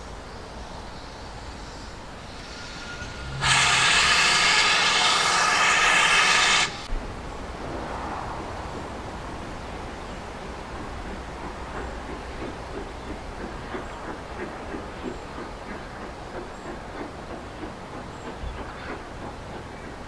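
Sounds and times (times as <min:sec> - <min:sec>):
locomotive steam hissing: 0:00.0 - 0:06.9, 0:09.1 - 0:20.0.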